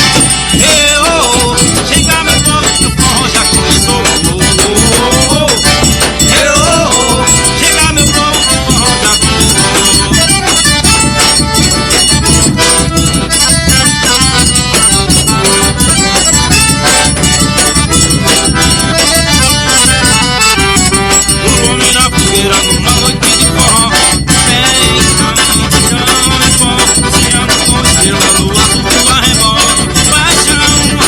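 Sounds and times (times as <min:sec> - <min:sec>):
accordion melody: 0:00.0 - 0:31.0
driving beat: 0:00.0 - 0:31.0.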